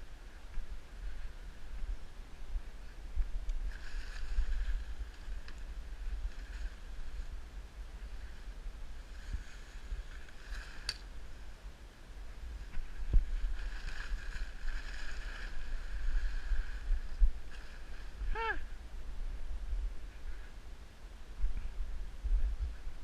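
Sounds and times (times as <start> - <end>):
faint hiss: 0.0 - 23.0
wind rumbling on microphone: 0.0 - 23.0.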